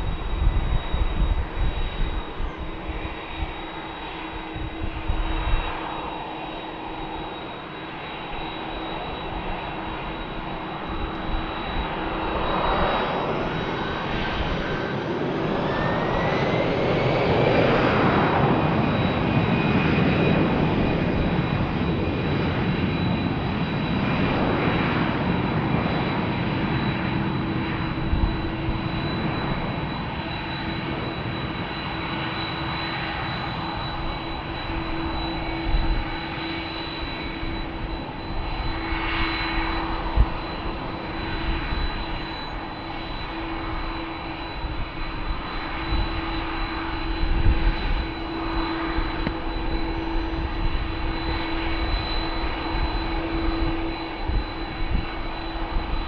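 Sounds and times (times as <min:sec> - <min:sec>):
jet engine noise: 0:00.0 - 0:56.0
jet engines spooling up: 0:00.0 - 0:56.0.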